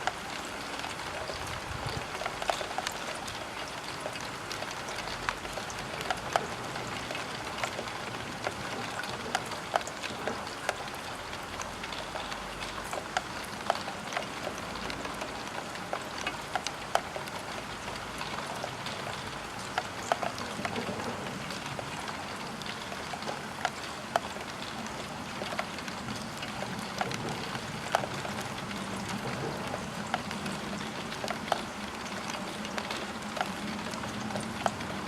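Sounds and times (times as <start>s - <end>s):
rain hiss: 0.0s - 35.0s
raindrops tapping on glass: 0.0s - 35.0s.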